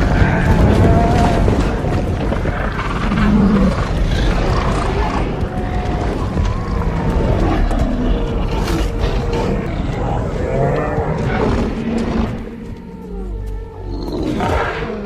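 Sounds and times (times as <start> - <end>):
heavy footfalls rumbling: 0.0 - 12.8
drawn-out animal calls: 0.0 - 13.9.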